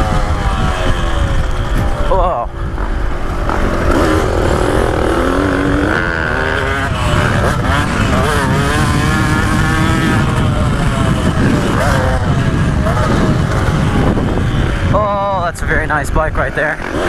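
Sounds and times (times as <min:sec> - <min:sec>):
dirt bike engine revving: 0:00.0 - 0:15.4, 0:16.6 - 0:17.0
wind rumble on microphone: 0:00.0 - 0:17.0.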